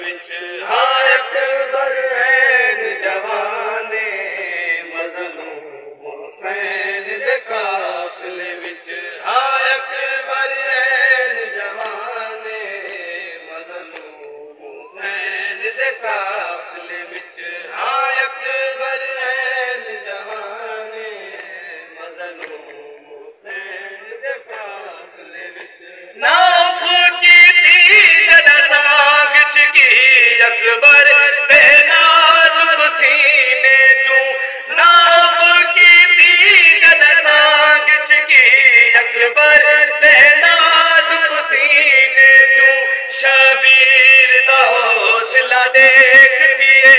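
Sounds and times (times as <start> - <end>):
men chanting a lament: 0.0 - 46.9.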